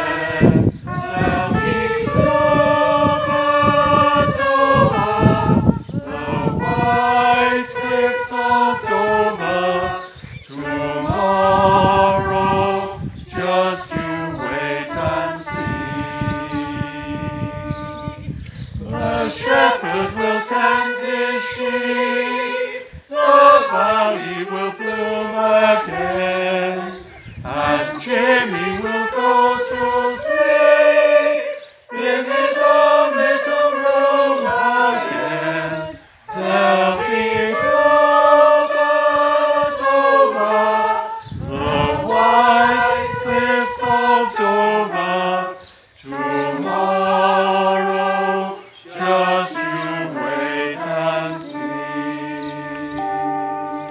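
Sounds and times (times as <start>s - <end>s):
group of people singing: 0.0s - 53.9s.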